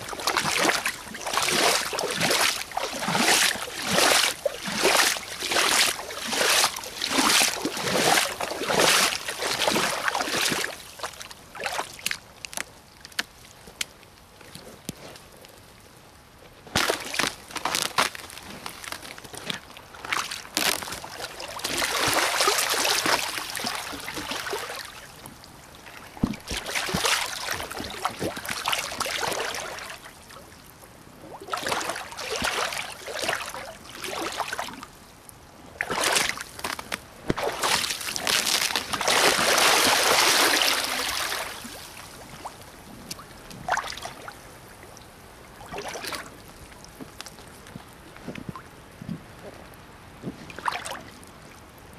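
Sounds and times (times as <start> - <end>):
boots splashing through water: 0.0 - 13.4, 16.7 - 25.1, 25.8 - 30.3, 31.3 - 34.9, 35.8 - 44.4, 45.6 - 48.6, 50.3 - 51.2.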